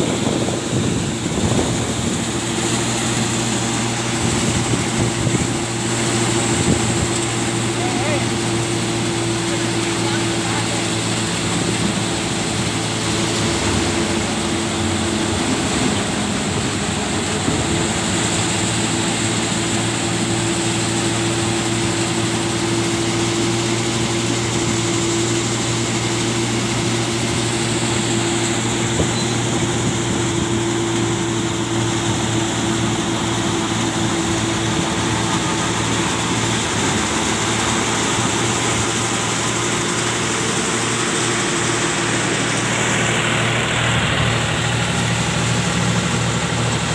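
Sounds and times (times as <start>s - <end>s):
machine engine humming: 0.0s - 46.9s.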